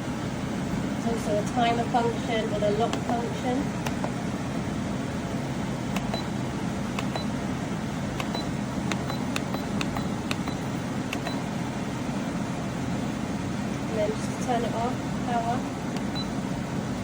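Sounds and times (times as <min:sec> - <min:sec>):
air conditioner fan hum: 0:00.0 - 0:17.0.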